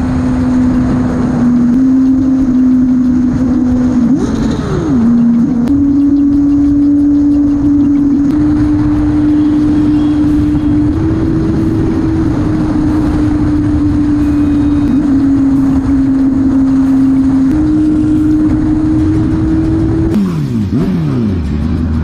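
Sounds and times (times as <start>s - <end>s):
motorcycle engine at high revs: 0.0s - 22.0s
wind and road rushing noise: 0.0s - 22.0s.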